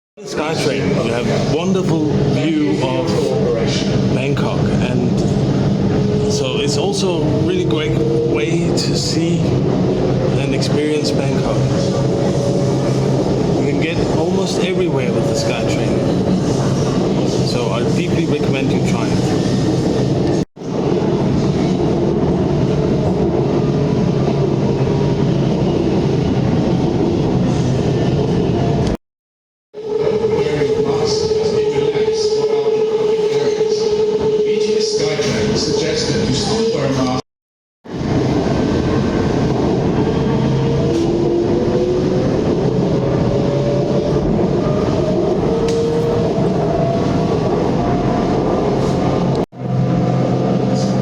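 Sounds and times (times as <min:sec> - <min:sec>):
train running on elevated track: 0:00.2 - 0:29.0, 0:29.8 - 0:37.2, 0:37.9 - 0:51.0.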